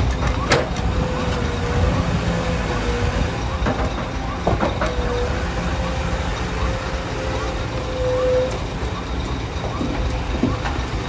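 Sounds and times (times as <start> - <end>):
diesel engines running: 0.0 - 11.0
wavering whine: 0.0 - 11.0.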